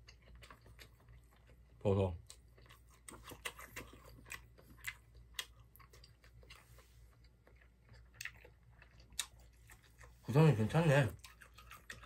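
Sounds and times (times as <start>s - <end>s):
person chewing with wet mouth clicks: 0.0s - 10.2s, 11.2s - 12.0s.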